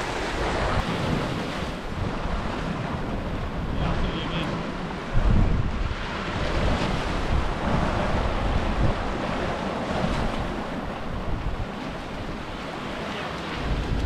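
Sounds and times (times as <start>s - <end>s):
wind buffeting microphone: 0.0s - 12.6s, 13.5s - 14.0s
waves breaking on shingle beach: 0.0s - 14.0s.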